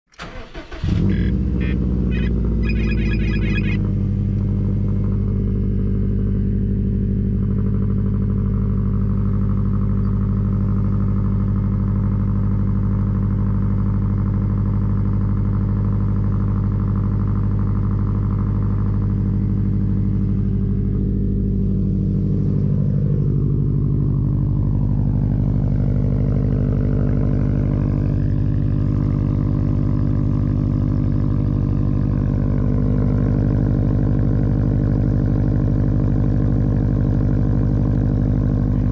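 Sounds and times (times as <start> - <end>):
car engine idling: 0.1 - 38.9.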